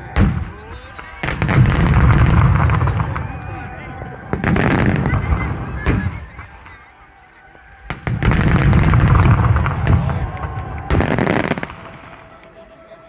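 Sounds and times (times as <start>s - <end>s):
fireworks bursting with bangs: 0.0s - 13.0s.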